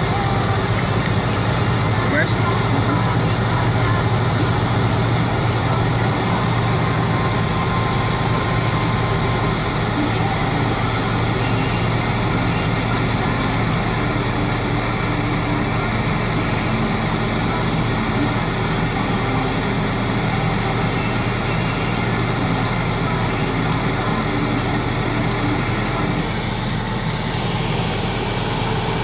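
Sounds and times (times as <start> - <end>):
road and snow noise: 0.0 - 29.0
vehicle engine hum: 0.0 - 29.0.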